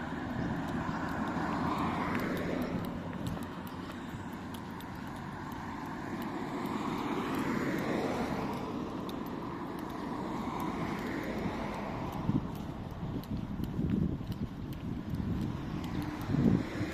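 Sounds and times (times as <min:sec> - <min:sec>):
vehicle passing: 0:00.0 - 0:16.9.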